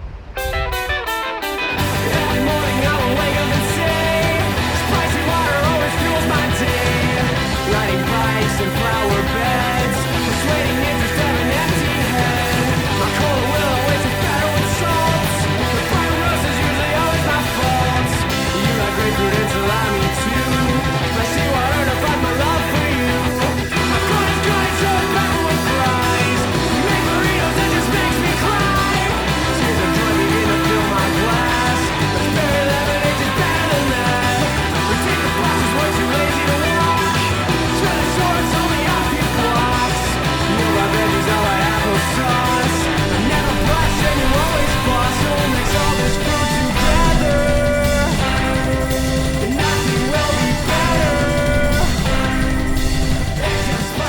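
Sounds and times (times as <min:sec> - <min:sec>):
rock song with male singing: 0:00.4 - 0:54.0.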